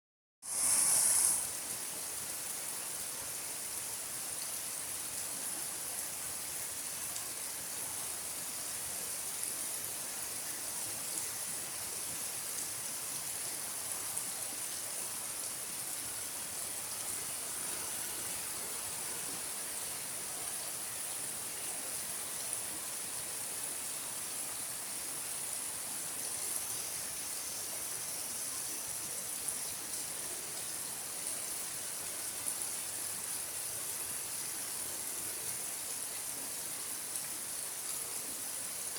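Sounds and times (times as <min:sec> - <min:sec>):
rain falling: 0:00.5 - 0:38.9.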